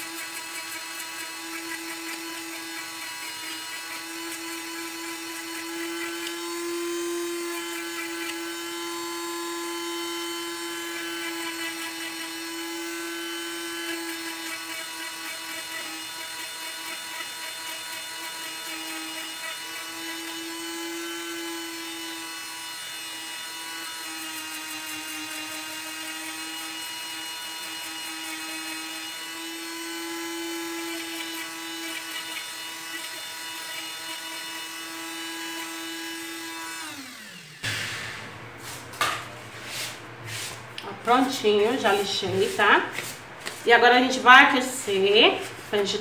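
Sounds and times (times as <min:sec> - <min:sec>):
micro-motor sander whining: 0:00.0 - 0:38.1.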